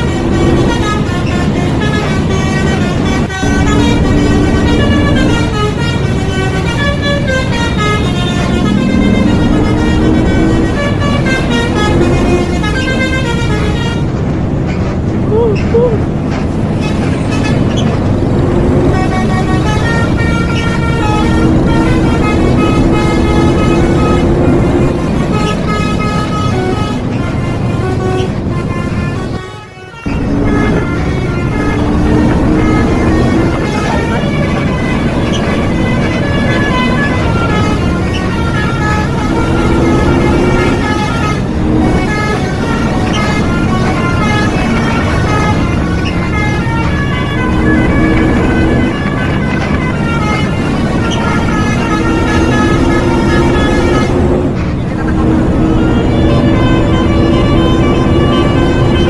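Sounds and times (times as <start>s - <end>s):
bus musical horn tune: 0.0s - 59.0s
engine and road rumble: 0.0s - 59.0s.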